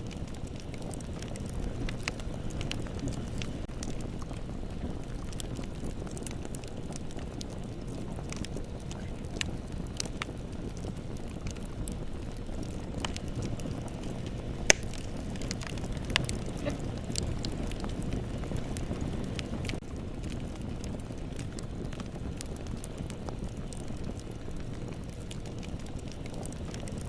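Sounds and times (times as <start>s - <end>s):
bonfire rumble: 0.0s - 27.0s
fire crackles and pops: 0.0s - 27.0s.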